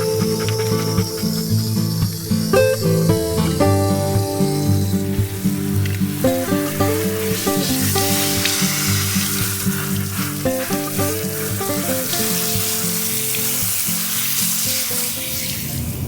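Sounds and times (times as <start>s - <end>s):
soft keyboard music: 0.0s - 13.9s
steady loud hiss: 1.2s - 16.0s.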